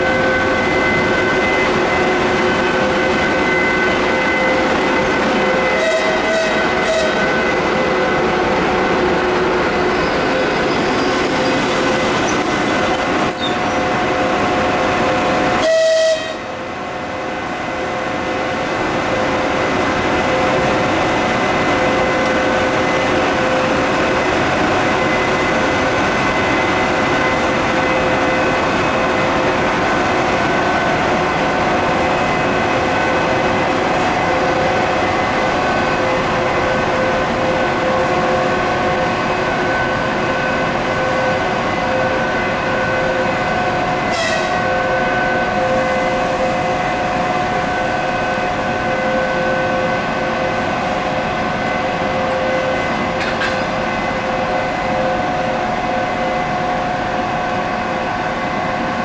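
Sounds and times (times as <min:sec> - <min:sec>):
electric locomotive whining hum: 0:00.0 - 0:59.0.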